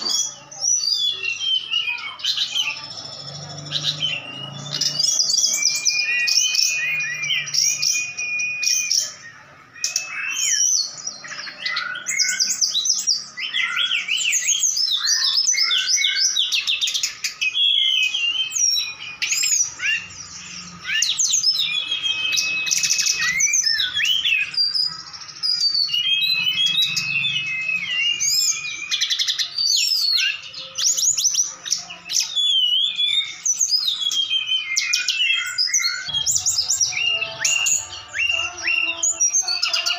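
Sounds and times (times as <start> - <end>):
birds singing whistles and chatter: 0.0 - 39.9
long held bird whistles: 3.6 - 39.9.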